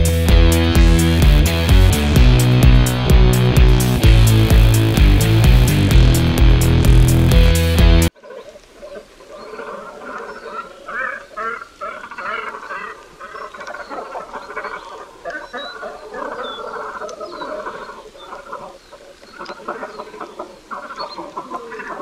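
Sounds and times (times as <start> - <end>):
cormorants calling: 0.0 - 22.0.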